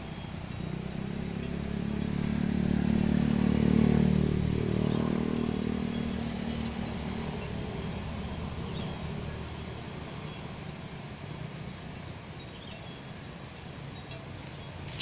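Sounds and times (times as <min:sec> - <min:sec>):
motor vehicle passing by: 0:00.0 - 0:15.0.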